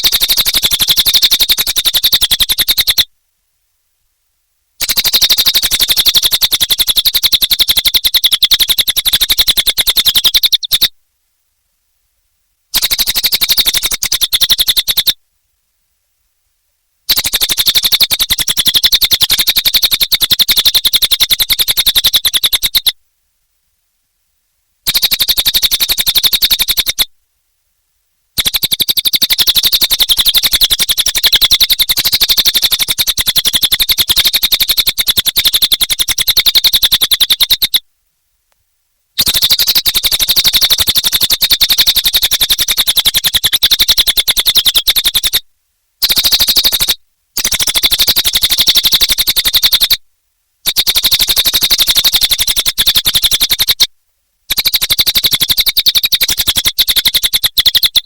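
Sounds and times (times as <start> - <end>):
songbird rapid chirping: 0.0 - 3.1, 4.8 - 11.0, 12.7 - 15.2, 17.1 - 23.0, 24.8 - 27.1, 28.4 - 37.8, 39.2 - 45.4, 46.0 - 50.0, 50.6 - 53.9, 54.5 - 58.0.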